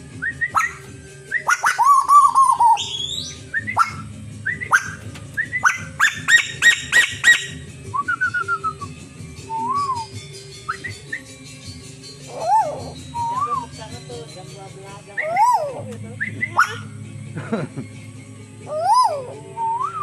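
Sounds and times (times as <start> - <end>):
pet bird whistling: 0.2 - 16.9, 18.7 - 20.0.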